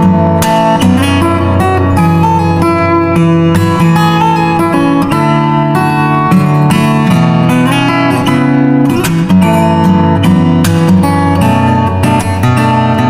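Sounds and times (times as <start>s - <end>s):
acoustic guitar plucked and strummed: 0.0s - 13.0s.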